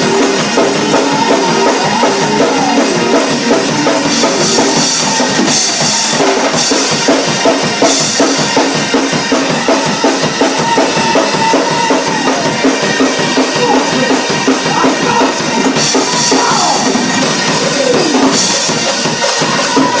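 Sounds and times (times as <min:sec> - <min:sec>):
drum kit beat: 0:00.0 - 0:20.0
live band music: 0:00.0 - 0:20.0.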